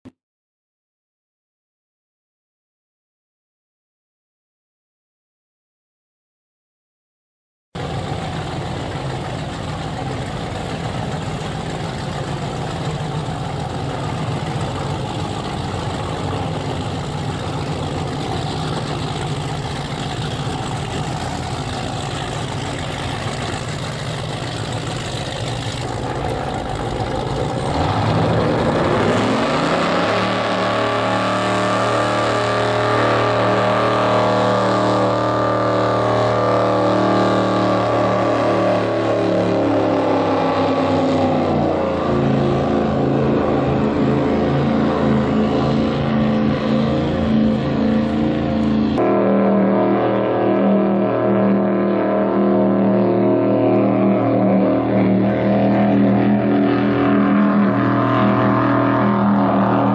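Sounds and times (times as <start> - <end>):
powerboat engines rumbling: 7.8 - 59.9.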